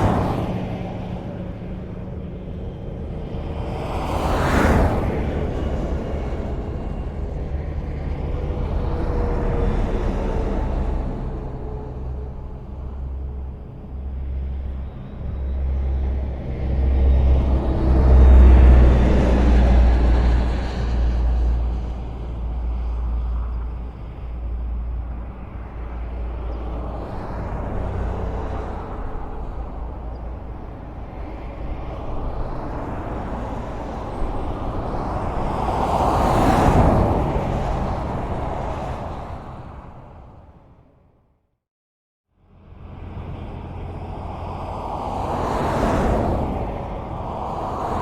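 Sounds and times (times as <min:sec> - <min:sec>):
highway traffic rumble: 0:00.0 - 0:41.5, 0:42.3 - 0:48.0.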